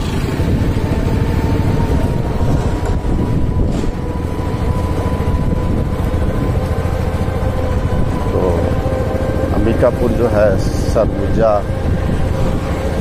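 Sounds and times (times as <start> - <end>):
motorcycle engine running: 0.0 - 13.0
thin steady whine: 0.0 - 13.0
wind rumble on microphone: 0.0 - 13.0.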